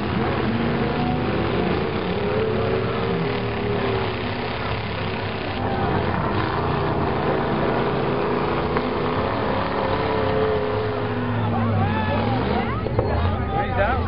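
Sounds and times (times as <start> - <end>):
truck engines running and revving: 0.0 - 14.0.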